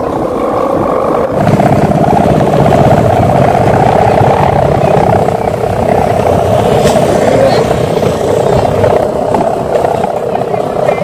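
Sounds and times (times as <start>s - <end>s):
kite hummers buzzing drone: 0.0s - 11.0s.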